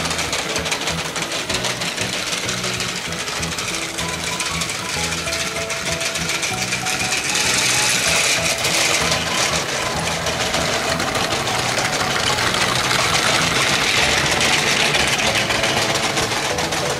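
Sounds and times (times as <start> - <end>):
toy train motor whirring: 0.0 - 16.9
wheels rattling over track: 0.0 - 16.9.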